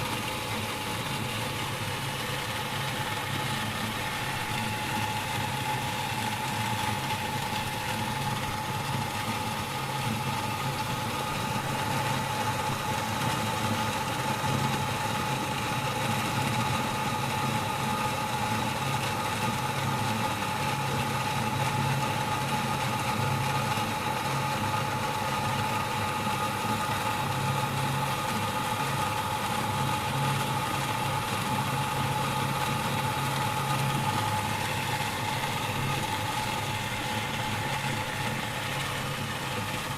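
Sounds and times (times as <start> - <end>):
electric water pump whining: 0.0 - 39.9.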